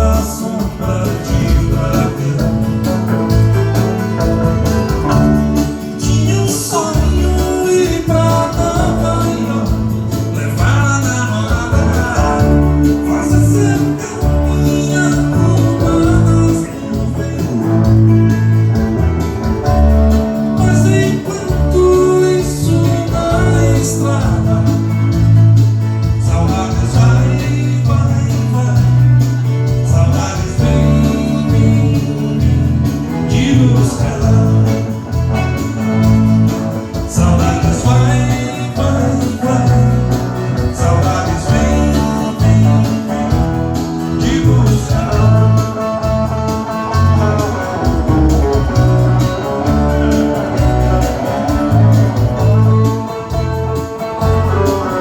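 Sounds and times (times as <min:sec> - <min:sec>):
bass: 0:00.0 - 0:55.0
guitar: 0:00.0 - 0:55.0
person singing: 0:00.0 - 0:55.0
steady beat: 0:00.1 - 0:27.2, 0:28.4 - 0:55.0.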